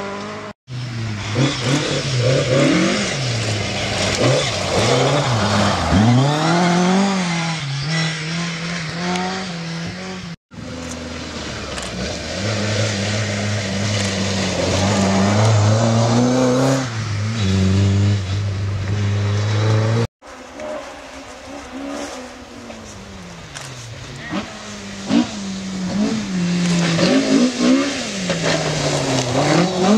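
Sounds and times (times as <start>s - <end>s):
rally car engines revving: 0.0s - 29.9s.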